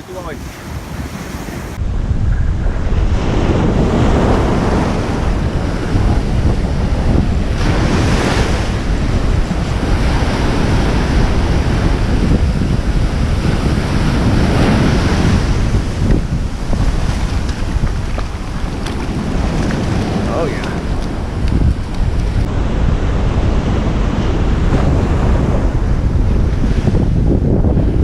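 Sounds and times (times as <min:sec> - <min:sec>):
ocean surf washing: 0:00.0 - 0:28.0
wind buffeting microphone: 0:00.0 - 0:28.0.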